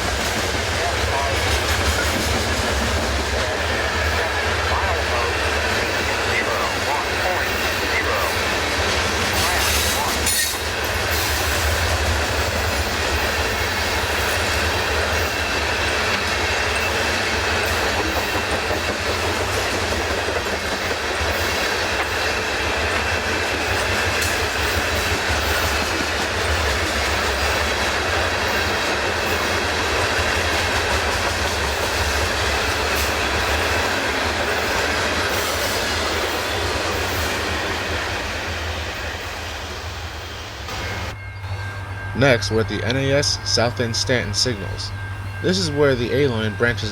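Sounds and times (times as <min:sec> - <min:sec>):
train wheels rolling on rail: 0:00.0 - 0:46.9.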